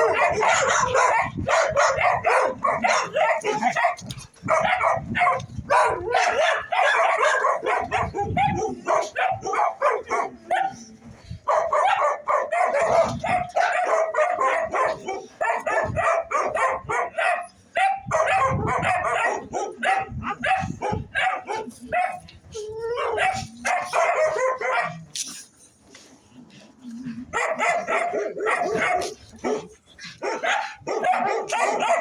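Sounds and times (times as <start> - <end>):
dogs barking and yelping: 0.0 - 25.8, 27.2 - 32.0.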